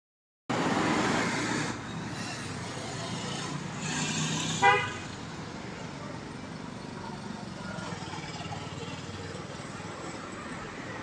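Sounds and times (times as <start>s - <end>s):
street traffic noise: 0.5s - 11.0s.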